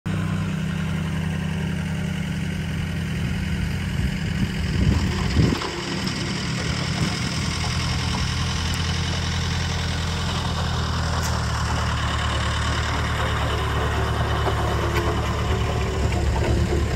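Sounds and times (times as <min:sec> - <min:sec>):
pickup truck engine idling: 0:00.1 - 0:16.9.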